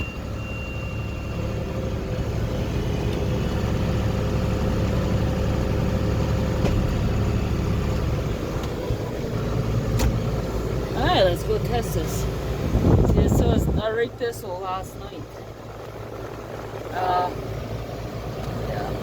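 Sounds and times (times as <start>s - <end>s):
baler machinery noise: 0.0s - 19.0s
tractor engine running: 0.0s - 19.0s.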